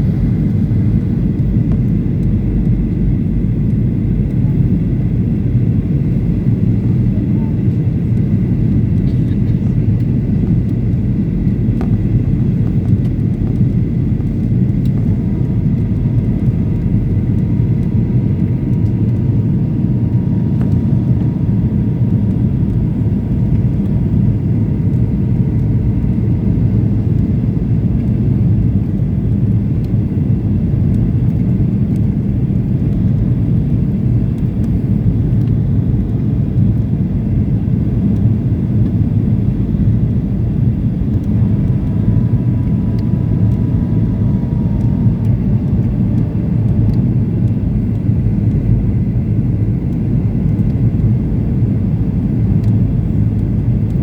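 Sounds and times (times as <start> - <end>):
aircraft cabin engine rumble: 0.0 - 54.0
airflow over fuselage: 0.0 - 54.0.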